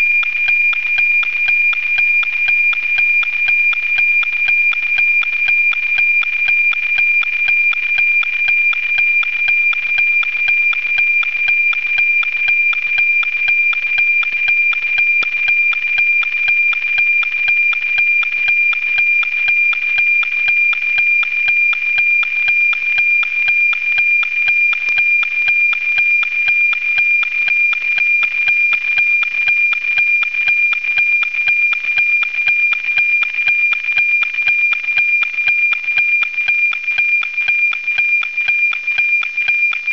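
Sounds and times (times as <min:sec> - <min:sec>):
high steady whistling tone: 0:00.0 - 0:39.9
regular tick-tock beat: 0:00.0 - 0:39.9.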